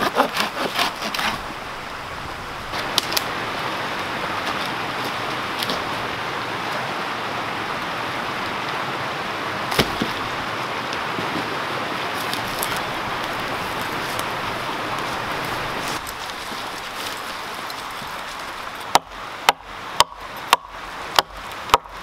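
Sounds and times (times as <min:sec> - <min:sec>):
creek running over rocks: 0:00.0 - 0:22.0.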